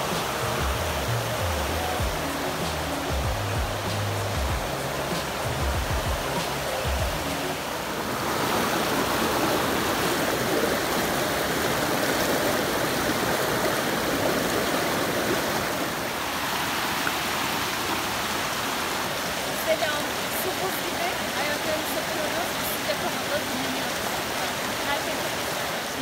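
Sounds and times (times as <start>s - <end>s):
stream rushing over stones: 0.0s - 26.0s.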